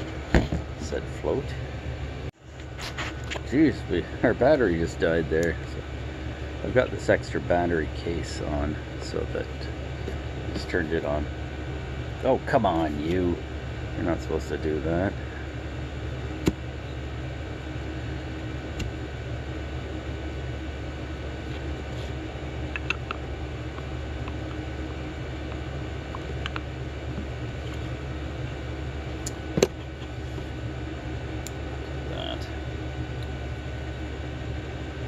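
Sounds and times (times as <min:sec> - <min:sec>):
low fan hum: 0:00.0 - 0:35.0.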